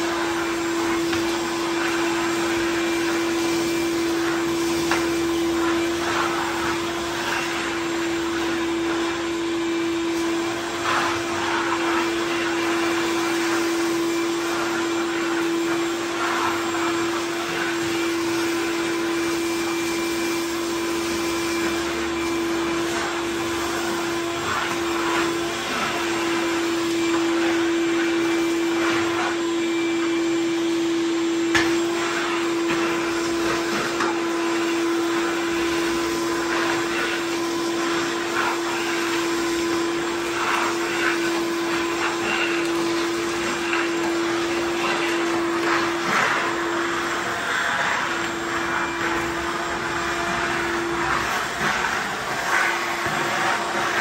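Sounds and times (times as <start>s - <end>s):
shop vacuum motor whine: 0.0s - 54.0s.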